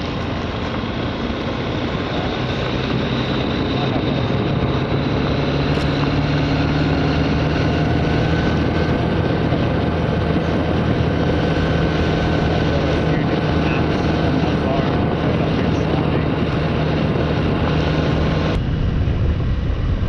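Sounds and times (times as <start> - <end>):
small engine running: 0.0 - 19.1
wind rushing over microphone: 0.0 - 20.0.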